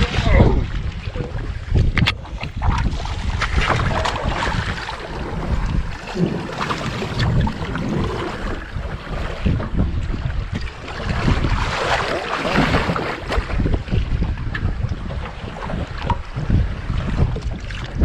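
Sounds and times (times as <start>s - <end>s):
water splashing beside boat: 0.0s - 18.0s
wind buffeting microphone: 0.0s - 18.0s.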